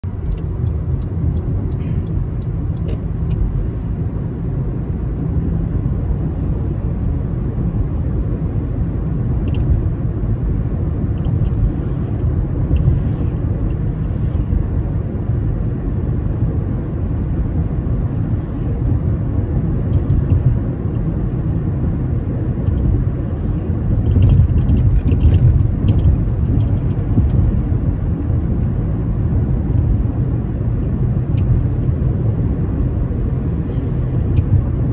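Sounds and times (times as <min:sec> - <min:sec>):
car driving road and engine noise: 0:00.0 - 0:34.9.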